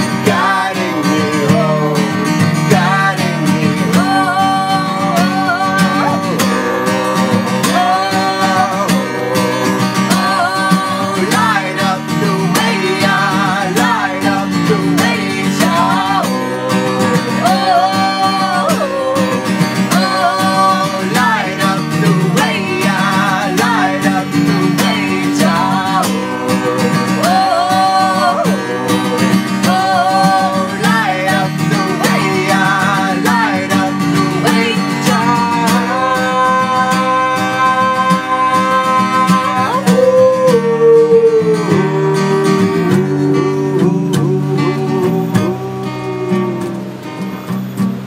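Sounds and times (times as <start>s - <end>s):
man and woman singing: 0.0s - 47.0s
strummed acoustic guitar: 0.0s - 48.0s.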